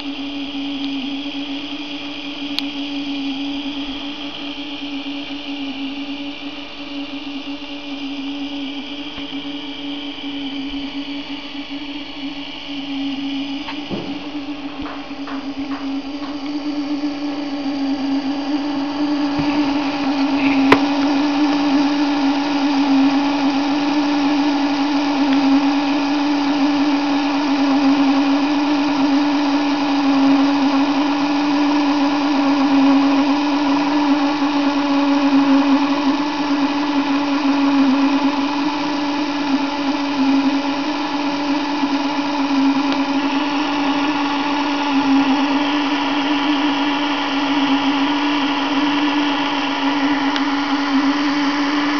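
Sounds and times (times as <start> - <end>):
small electric motor humming: 0.0 - 51.9.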